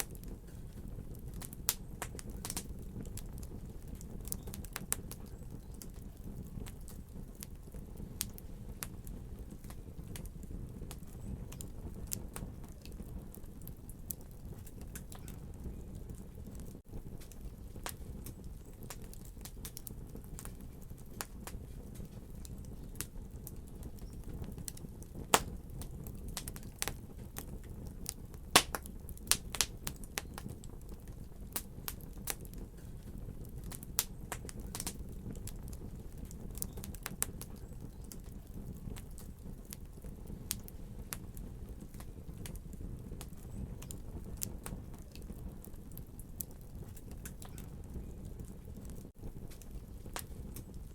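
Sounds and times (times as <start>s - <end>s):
fire crackling in a fireplace: 0.0s - 50.9s
sharp pops of fire: 0.0s - 50.9s.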